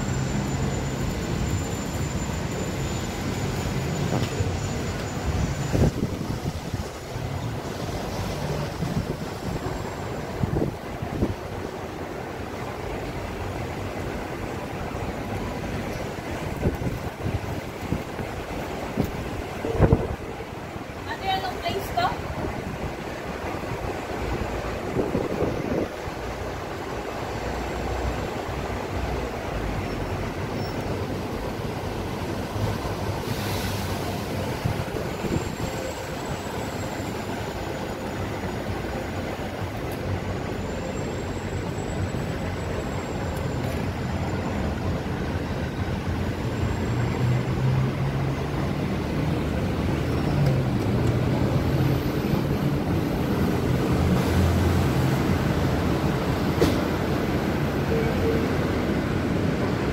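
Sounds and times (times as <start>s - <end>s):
heavy vehicle engine hum: 0.0s - 59.9s
street traffic noise: 0.0s - 59.9s.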